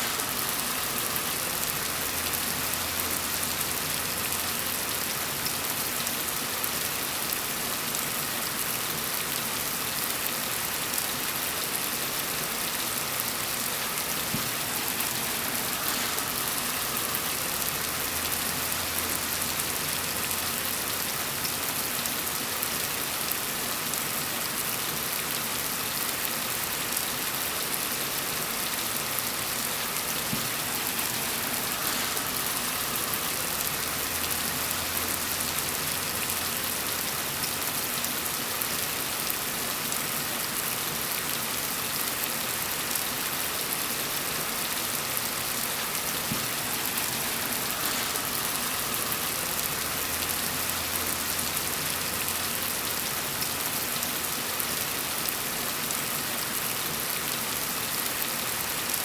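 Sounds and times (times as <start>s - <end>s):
gentle rain falling: 0.0s - 59.0s.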